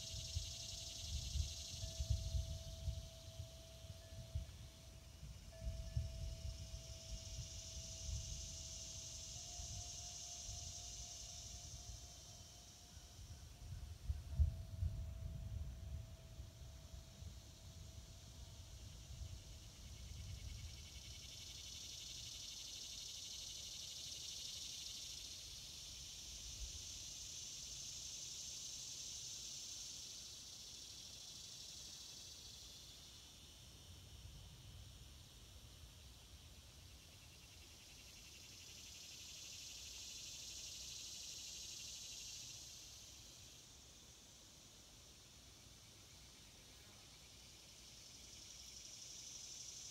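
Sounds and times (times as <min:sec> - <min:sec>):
insects buzzing in chorus: 0:00.0 - 0:49.9.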